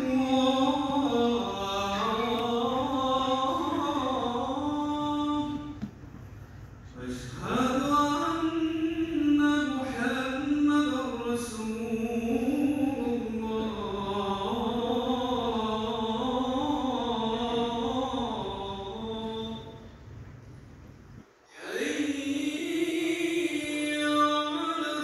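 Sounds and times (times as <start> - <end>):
man chanting recitation: 0.0 - 5.8, 6.8 - 19.8, 21.5 - 25.0.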